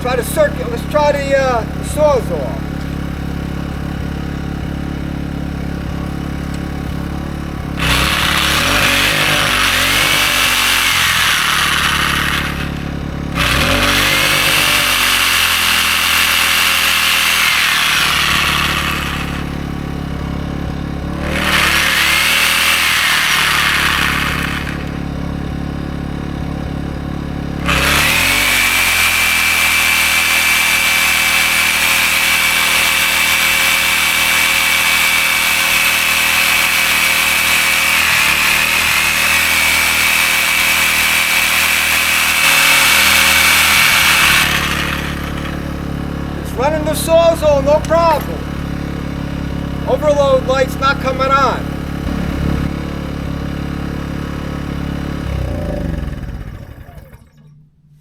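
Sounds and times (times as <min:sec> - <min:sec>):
generator engine running: 0:00.0 - 0:58.0
reciprocating saw motor whine: 0:07.5 - 0:25.6, 0:27.4 - 0:58.0.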